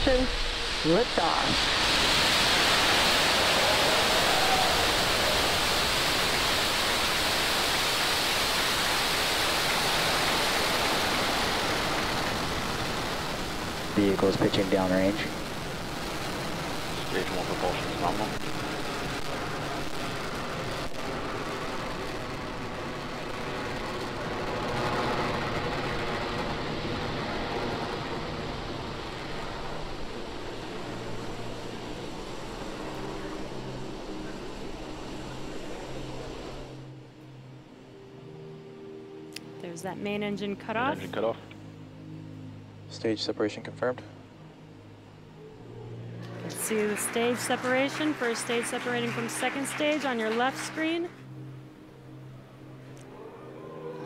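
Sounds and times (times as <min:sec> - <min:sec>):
rocket engines roaring: 0:00.0 - 0:37.2, 0:44.9 - 0:54.0.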